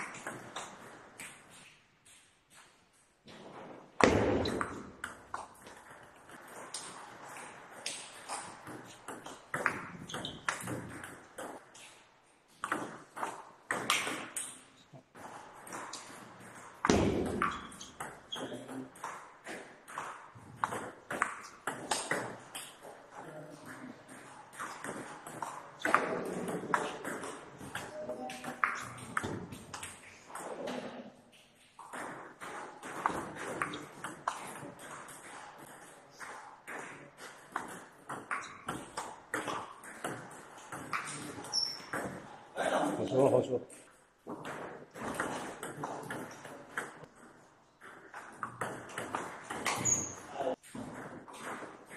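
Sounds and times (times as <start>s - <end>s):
ping pong ball hitting bats: 0.0s - 43.1s, 43.8s - 51.9s
ball bouncing on table: 3.3s - 11.8s, 12.6s - 31.0s, 31.6s - 42.4s, 44.3s - 51.9s.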